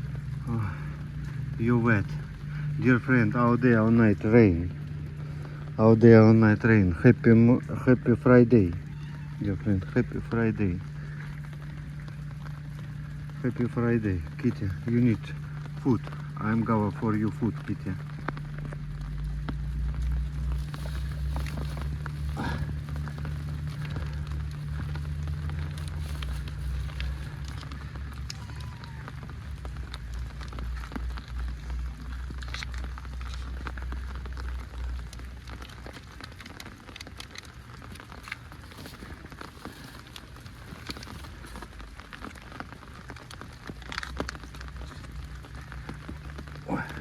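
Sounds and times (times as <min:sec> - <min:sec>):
heavy rain falling: 0:00.0 - 0:47.0
low rumble: 0:00.0 - 0:47.0
raindrops tapping on an umbrella: 0:00.0 - 0:47.0.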